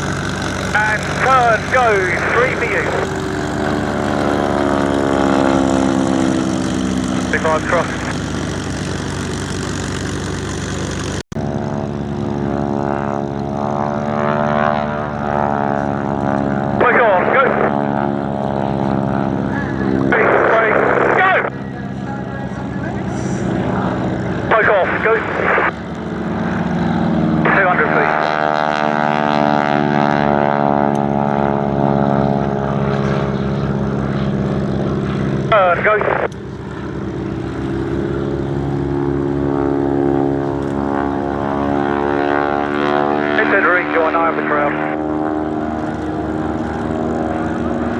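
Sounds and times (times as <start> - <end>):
biplane engines and propellers: 0.0 - 47.9.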